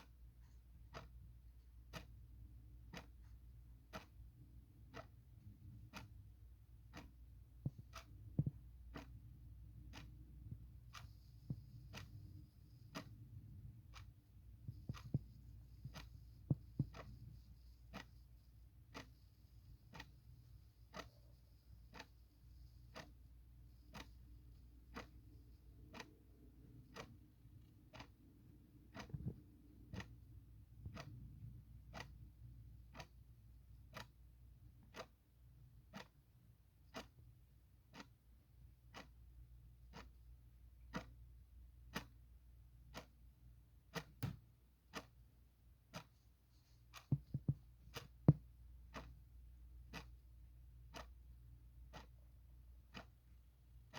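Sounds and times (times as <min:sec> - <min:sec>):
clock ticking: 0:00.0 - 0:53.9.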